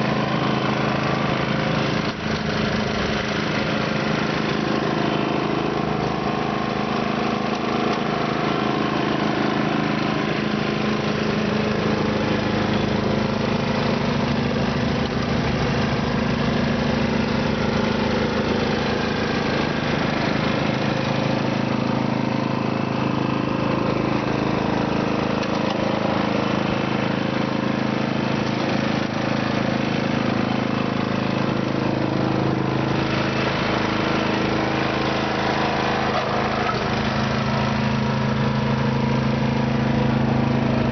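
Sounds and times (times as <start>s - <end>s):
snow blower engine running: 0.0s - 40.9s.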